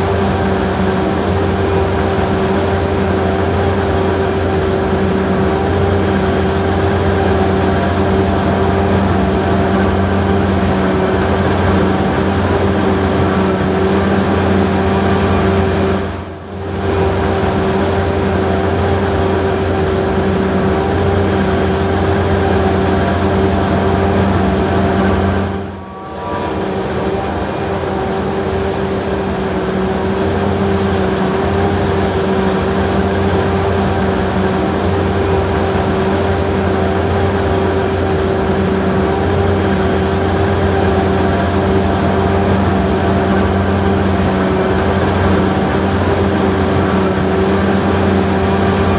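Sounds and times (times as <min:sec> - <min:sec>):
diesel farm machinery running: 0:00.0 - 0:48.9.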